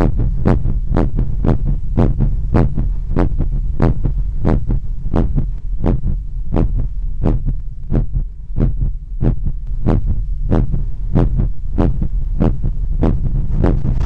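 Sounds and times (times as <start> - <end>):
heartbeat through stethoscope: 0.0 - 14.0
steady low hum: 0.0 - 14.0.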